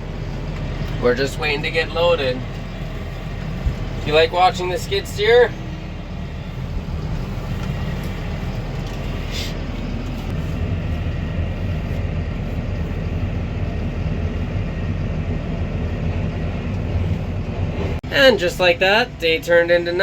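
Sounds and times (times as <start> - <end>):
diesel tractor running: 0.0 - 20.0.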